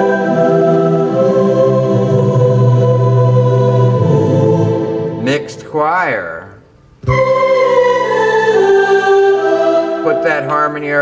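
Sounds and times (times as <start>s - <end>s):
keyboard choir chord: 0.0s - 11.0s.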